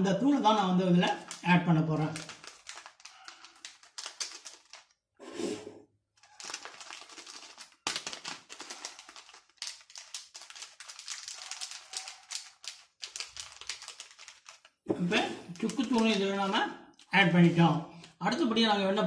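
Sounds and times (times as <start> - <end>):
paper packet crinkling: 0.8 - 5.0, 6.2 - 18.2.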